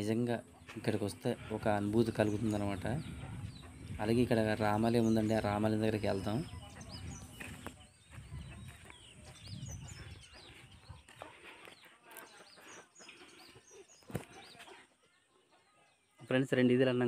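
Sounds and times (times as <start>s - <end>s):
faint chicken clucking: 0.0s - 17.0s
small birds chirping: 0.0s - 17.0s.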